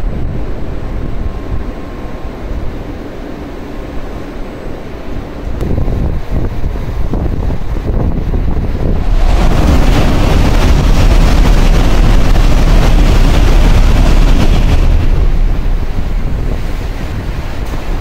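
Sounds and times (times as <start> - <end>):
wind buffeting microphone: 0.0 - 3.2, 5.2 - 18.0
train rushing roar: 0.0 - 18.0.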